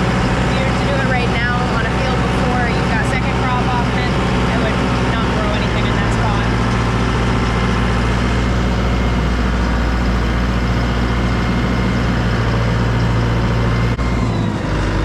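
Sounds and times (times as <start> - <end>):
heavy farm machine engine running: 0.0 - 15.0.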